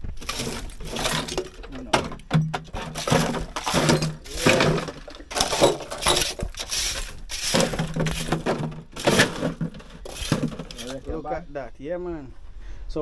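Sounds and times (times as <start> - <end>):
household objects clattering: 0.0 - 11.5.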